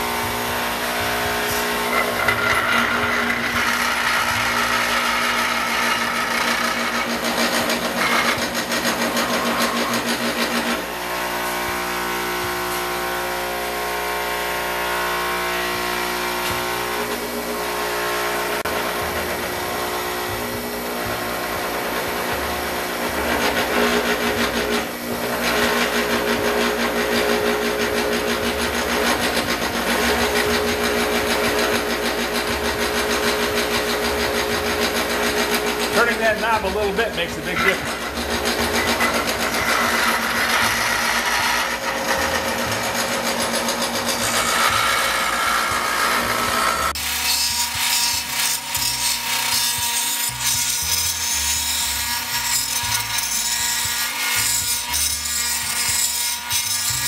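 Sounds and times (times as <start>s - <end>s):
grinder wheel grinding steel blades: 0.0s - 18.8s, 21.8s - 57.0s
grinder motor humming: 0.0s - 54.4s.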